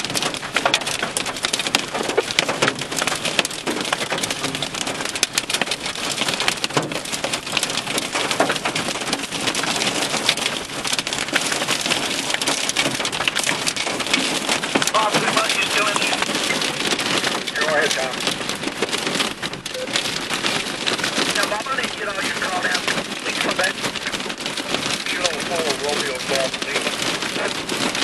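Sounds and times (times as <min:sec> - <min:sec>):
hail ticking on vehicle: 0:00.0 - 0:28.0
rain on vehicle roof: 0:00.0 - 0:28.0.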